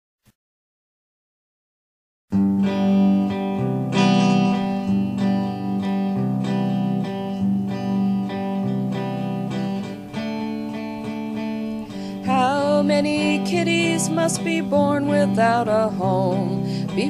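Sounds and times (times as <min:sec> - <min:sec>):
acoustic guitar strumming chords: 0:02.3 - 0:17.0.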